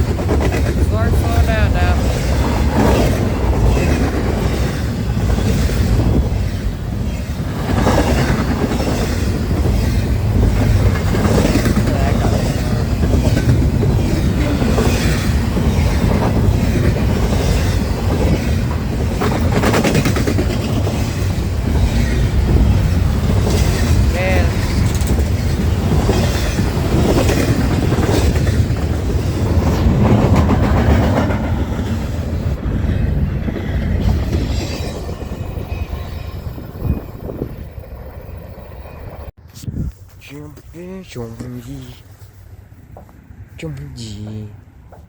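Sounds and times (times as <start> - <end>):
wheels clacking over rail joints: 0.0 - 37.1
freight train rumbling past: 0.0 - 39.4.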